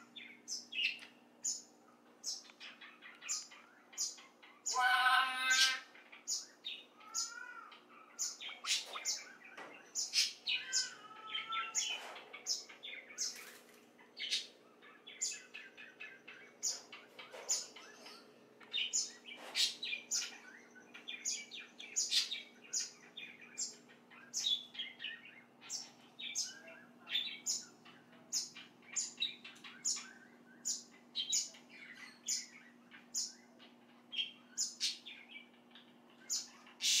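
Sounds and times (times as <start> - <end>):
birds chirping: 0.0 - 37.0
faint steady hum: 0.0 - 37.0.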